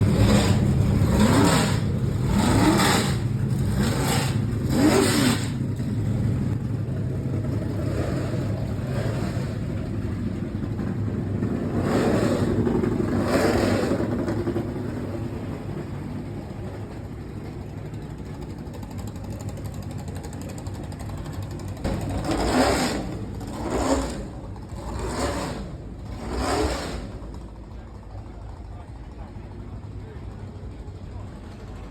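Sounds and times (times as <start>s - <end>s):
race cars passing at full throttle: 0.0s - 19.8s, 20.6s - 30.4s
steady engine drone: 0.0s - 31.9s.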